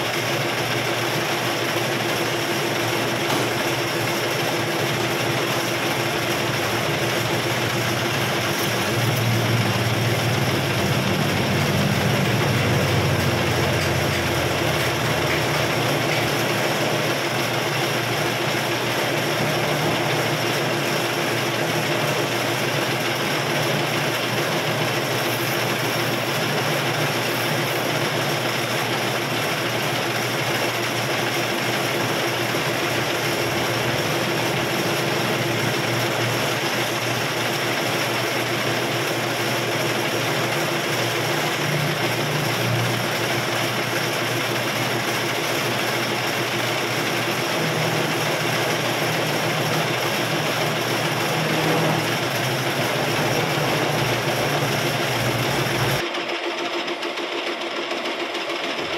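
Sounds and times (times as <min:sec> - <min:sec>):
metal lathe humming: 0:00.0 - 0:56.0.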